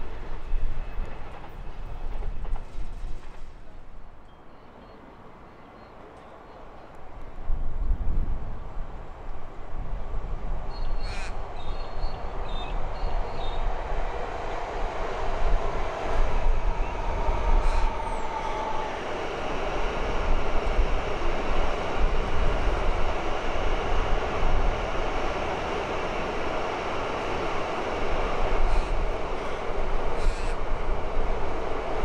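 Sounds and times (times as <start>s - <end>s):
train wheels rushing on rail: 0.0s - 4.3s, 6.6s - 32.0s.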